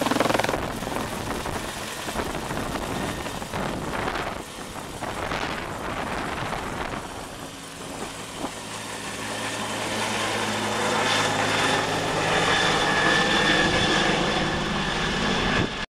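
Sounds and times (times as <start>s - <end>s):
helicopter rotor beating: 0.0s - 15.8s.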